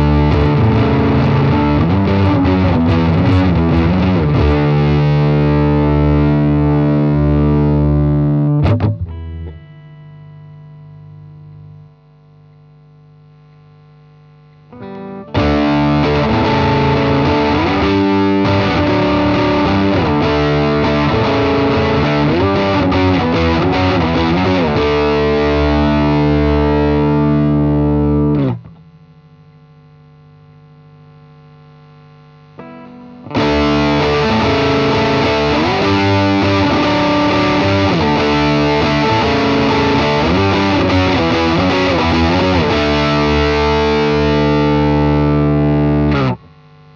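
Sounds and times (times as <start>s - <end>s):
distorted electric guitar: 0.0s - 46.9s
low amp noise: 0.0s - 46.9s.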